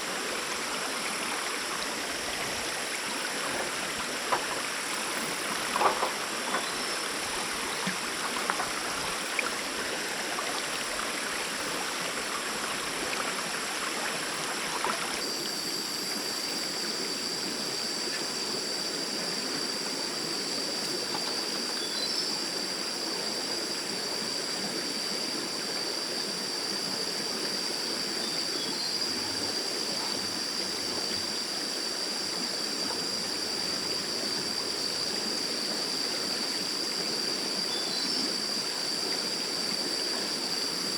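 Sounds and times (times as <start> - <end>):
stream water running over rocks: 0.0 - 40.9.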